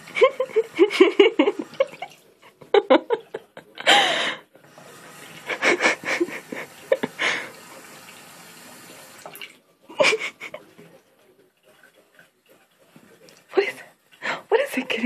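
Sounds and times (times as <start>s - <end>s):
faucet running into sink: 0.0s - 3.5s, 4.6s - 15.0s.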